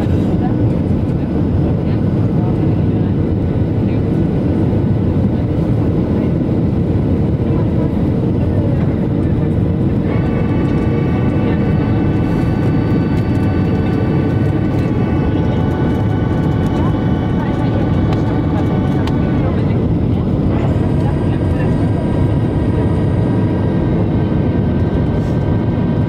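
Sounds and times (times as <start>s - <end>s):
jet engine and airflow roar: 0.0s - 26.0s.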